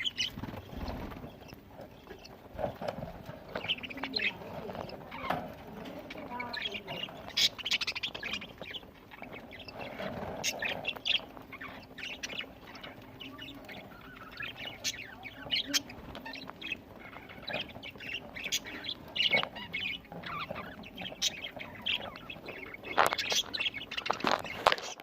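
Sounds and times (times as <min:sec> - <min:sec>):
budgerigars chirping and chattering: 0:00.0 - 0:25.0.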